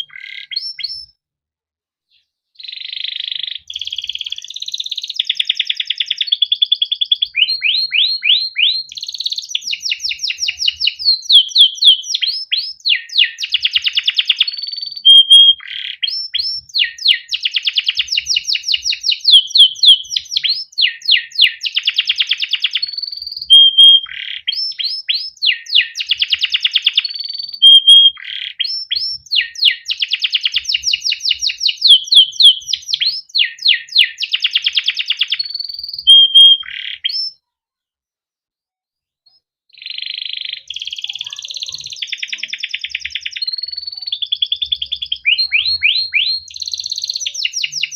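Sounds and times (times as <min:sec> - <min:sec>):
canary singing: 0:00.0 - 0:01.2, 0:02.1 - 0:37.4, 0:39.3 - 0:47.9.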